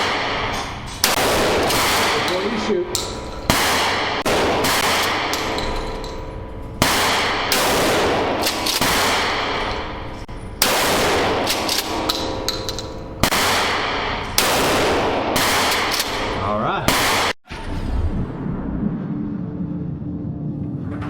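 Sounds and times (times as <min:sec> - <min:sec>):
gunshots with echoing decay: 0:00.0 - 0:17.4.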